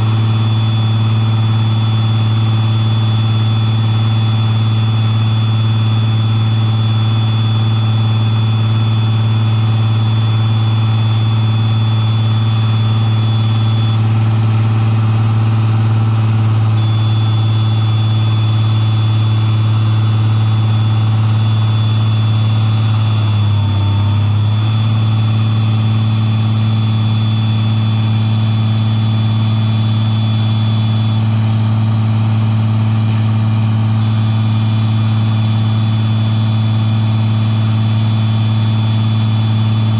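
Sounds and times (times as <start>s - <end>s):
diesel engine running: 0.0s - 39.9s
thin high whine: 0.0s - 39.9s.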